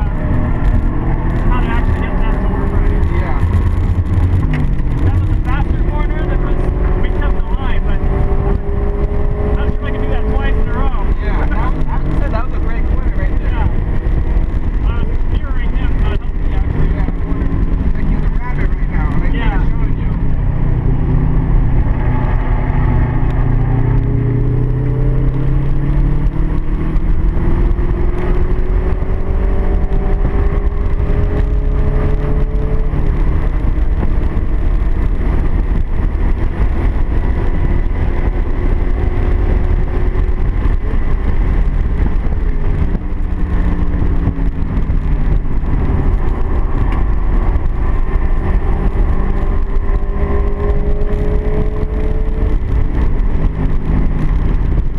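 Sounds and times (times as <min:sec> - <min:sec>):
car engine running hard: 0:00.0 - 0:54.9
road and wind noise: 0:00.0 - 0:54.9.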